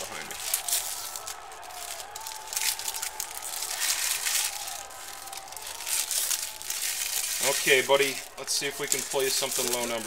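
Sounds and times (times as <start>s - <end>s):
foil wrapper tearing and crinkling: 0.0s - 10.0s.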